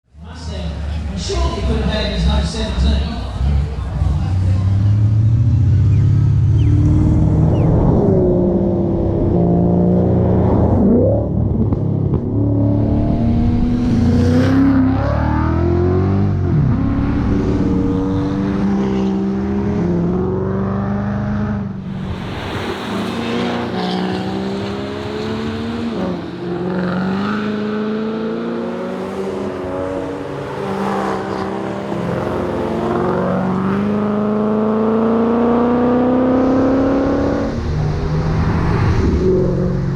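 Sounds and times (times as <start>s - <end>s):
car engine revving and shifting: 0.5s - 39.9s.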